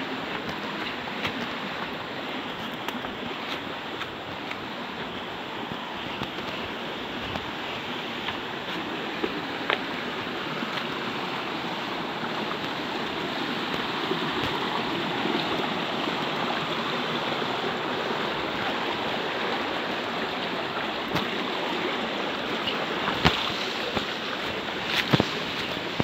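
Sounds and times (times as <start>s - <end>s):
stream water rushing over rocks: 0.0s - 26.0s.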